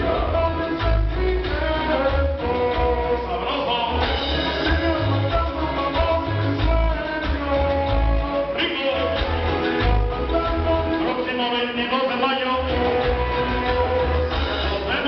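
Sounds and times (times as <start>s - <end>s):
loud latin dance music: 0.0s - 15.0s.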